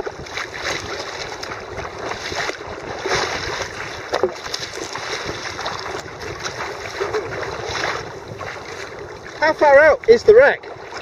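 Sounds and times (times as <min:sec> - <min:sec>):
water splashing along kayak hull: 0:00.0 - 0:11.0.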